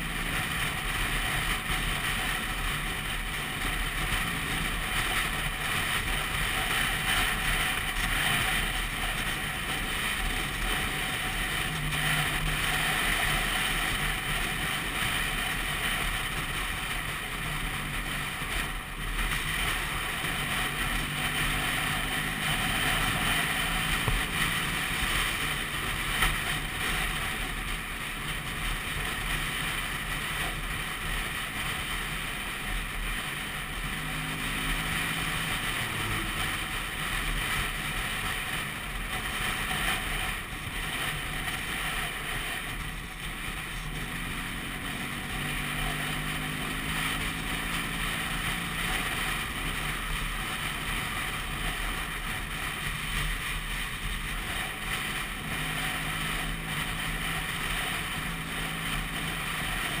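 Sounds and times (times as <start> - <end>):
scooter engine running: 0.0 - 60.0.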